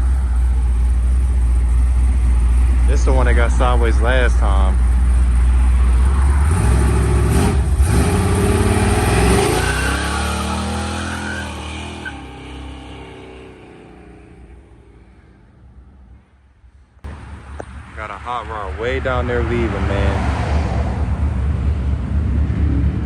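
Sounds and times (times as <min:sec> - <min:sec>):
car engine revving: 0:00.0 - 0:16.1, 0:17.0 - 0:23.0.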